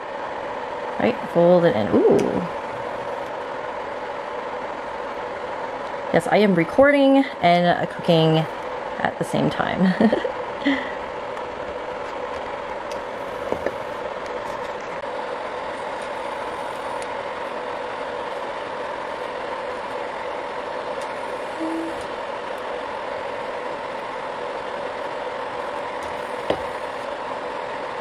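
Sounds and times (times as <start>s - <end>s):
induction burner humming: 0.0s - 28.0s.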